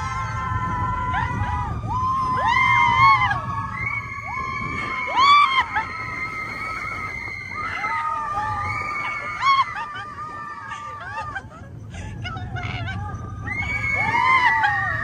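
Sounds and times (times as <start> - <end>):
people screaming: 0.0 - 15.0.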